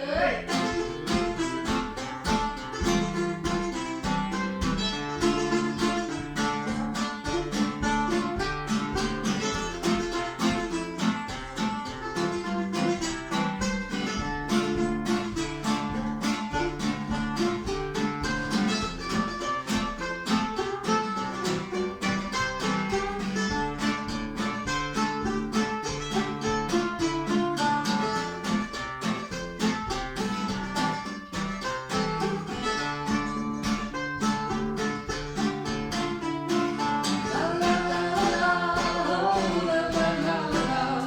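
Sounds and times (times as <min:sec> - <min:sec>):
lower plucked string notes: 0:00.0 - 0:41.0
mandolin picking: 0:00.0 - 0:41.0.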